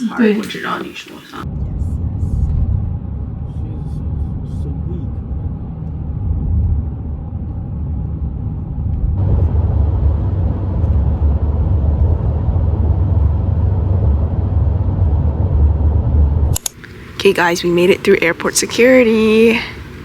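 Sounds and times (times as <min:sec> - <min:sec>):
low rumble of moving vehicle: 0:01.4 - 0:20.0.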